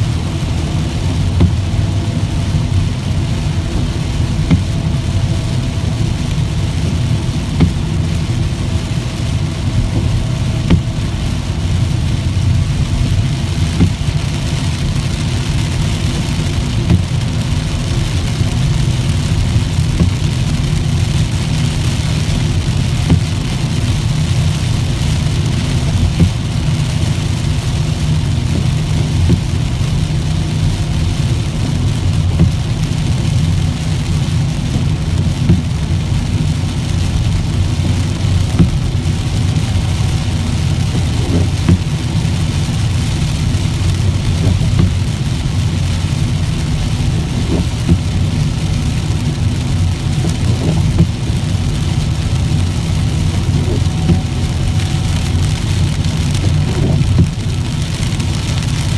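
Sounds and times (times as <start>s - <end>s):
rain and spray hiss: 0.0s - 58.9s
tyre and road noise: 0.0s - 58.9s.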